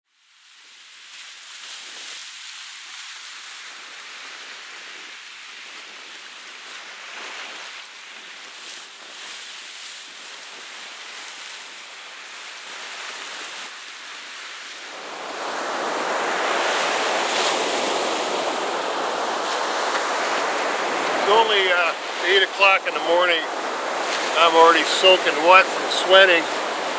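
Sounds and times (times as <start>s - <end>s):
ocean surf breaking on shore: 1.1s - 26.9s.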